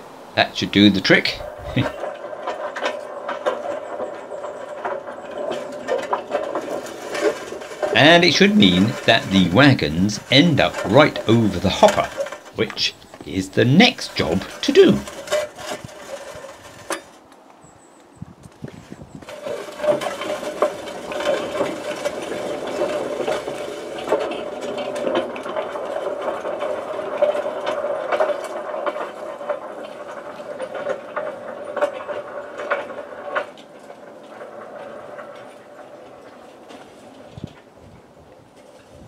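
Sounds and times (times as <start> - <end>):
wagon wheels rolling on rails: 0.0 - 39.0.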